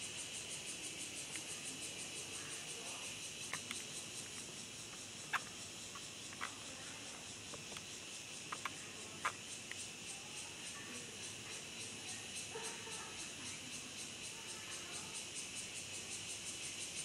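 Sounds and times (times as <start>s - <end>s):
pulsing insect chorus: 0.0s - 17.0s.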